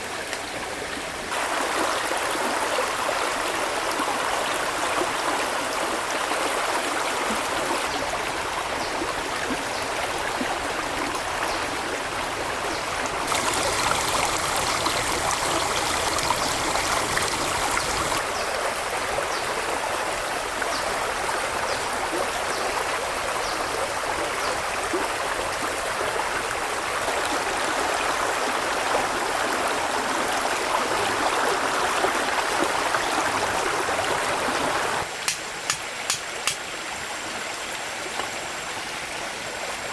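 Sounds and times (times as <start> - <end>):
stream water rushing: 0.0 - 23.2, 25.0 - 39.9.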